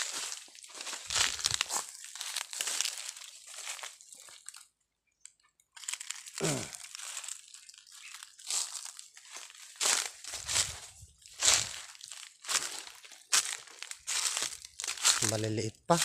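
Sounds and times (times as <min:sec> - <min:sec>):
footsteps crunching dry leaves: 0:00.0 - 0:04.6, 0:05.8 - 0:16.0.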